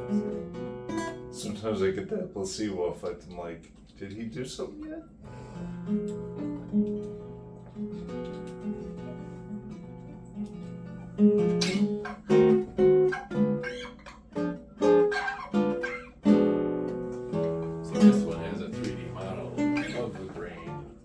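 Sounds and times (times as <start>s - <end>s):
acoustic guitar playing: 0.0s - 2.1s, 5.2s - 21.0s.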